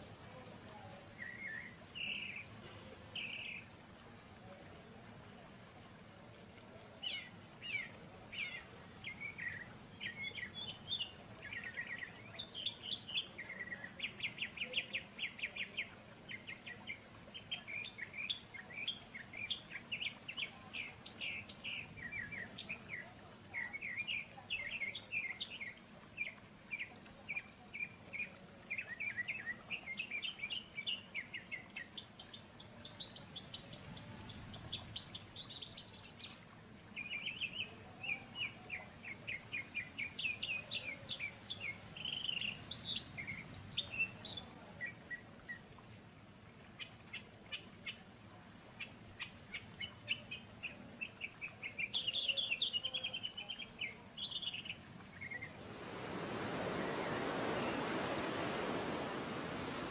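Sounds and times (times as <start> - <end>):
faint low background noise: 0.0 - 59.9
songbirds chirping and trilling: 0.0 - 59.9.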